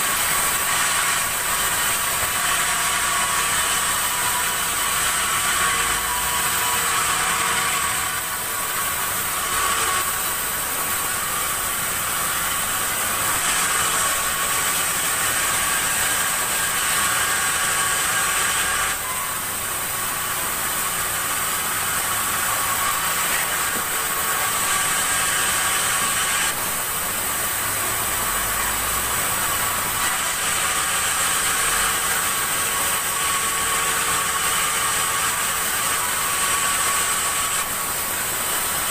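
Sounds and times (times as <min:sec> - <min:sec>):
sawmill saw whining: 0:00.0 - 0:38.9.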